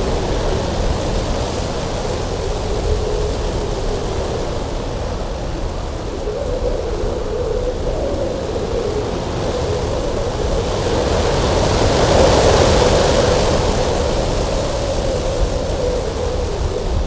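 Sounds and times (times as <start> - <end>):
cold wind with hollow tone: 0.0 - 17.0.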